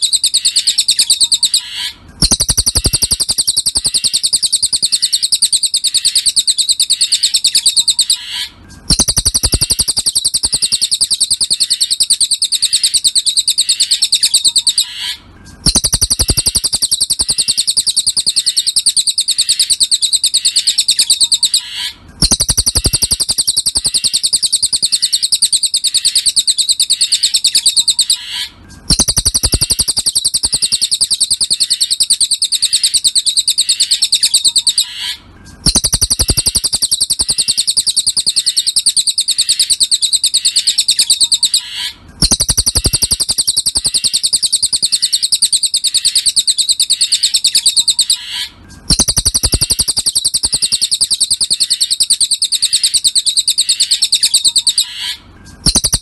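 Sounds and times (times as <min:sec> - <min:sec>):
fast high-pitched bird trill: 0:00.0 - 0:56.0.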